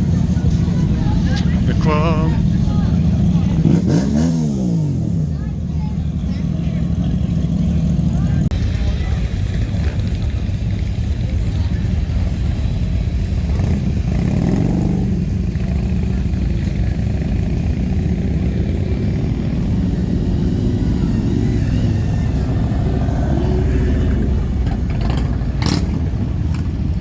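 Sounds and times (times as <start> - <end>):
motorcycle engines running: 0.0 - 27.0
motorcycles revving and passing: 0.0 - 27.0.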